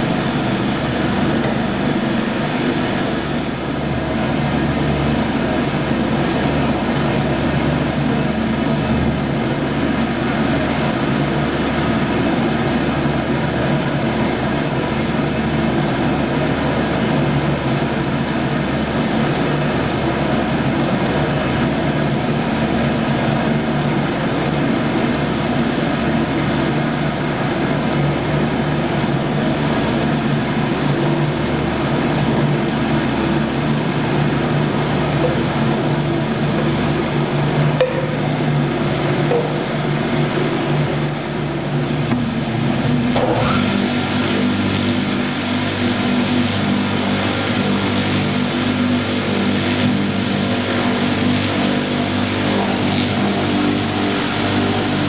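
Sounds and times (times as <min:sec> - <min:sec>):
bowl cutter machine hum: 0:00.0 - 0:55.0.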